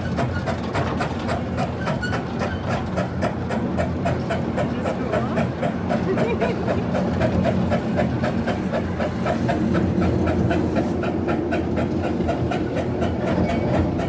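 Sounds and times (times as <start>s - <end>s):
miniature train rumbling and clattering: 0.0s - 14.0s.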